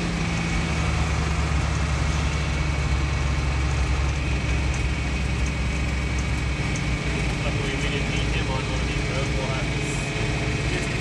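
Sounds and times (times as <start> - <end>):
road noise on gravel: 0.0 - 11.0
tractor engine humming: 0.0 - 11.0.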